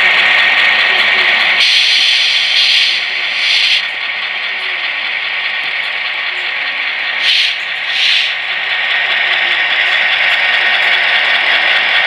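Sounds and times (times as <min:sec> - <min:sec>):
tinny diesel engine from speaker: 0:00.0 - 0:12.0.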